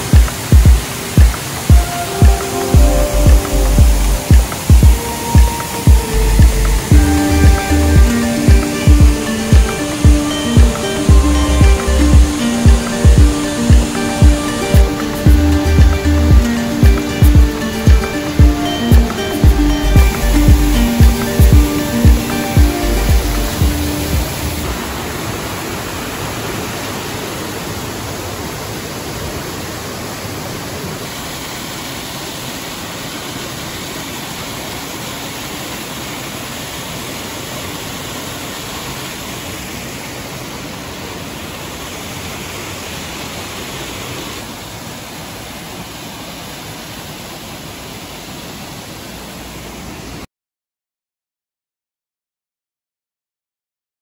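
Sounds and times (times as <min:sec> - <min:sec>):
waterfall rushing: 0:00.0 - 0:50.3.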